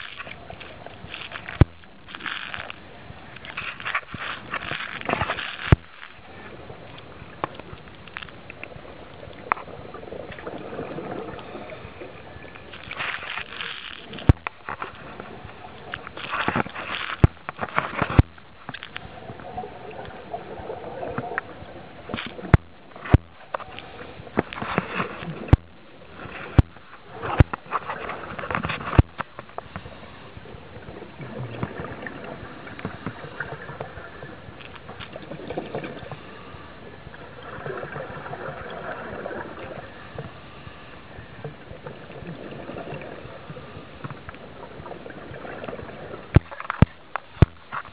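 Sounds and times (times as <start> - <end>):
steady hiss: 0.0 - 35.1, 35.9 - 37.7, 39.1 - 42.0
exhaled bubbles gurgling: 0.0 - 40.4, 41.3 - 47.9.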